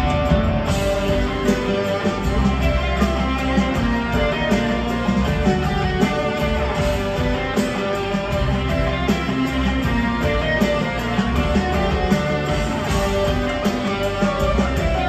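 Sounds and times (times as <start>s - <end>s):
electric guitars: 0.0s - 15.0s
keyboards: 0.0s - 15.0s
steady drum beat: 0.0s - 15.0s.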